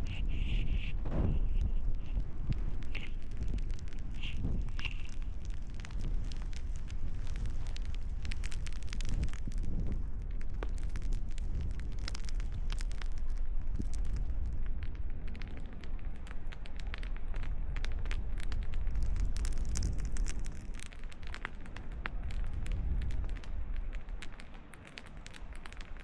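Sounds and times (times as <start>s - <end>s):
campfire crackling and popping: 0.0s - 26.0s
wind rumble on microphone: 0.0s - 26.0s.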